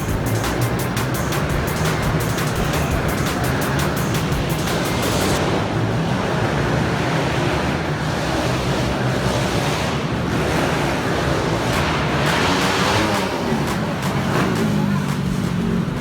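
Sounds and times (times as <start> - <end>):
motocross bike engines: 0.0 - 16.0.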